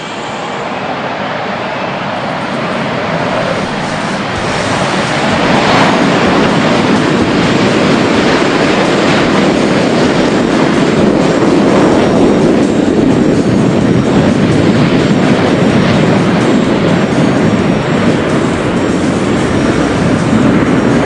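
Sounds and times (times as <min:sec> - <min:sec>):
jet engines roaring overhead: 0:00.0 - 0:21.0.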